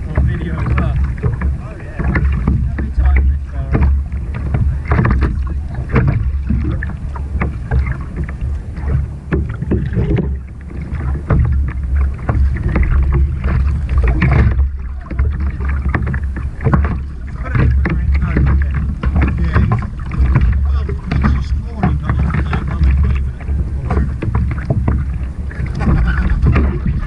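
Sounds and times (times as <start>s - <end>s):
constant low rumble: 0.0s - 27.0s
small waves slapping kayak hull: 0.0s - 27.0s.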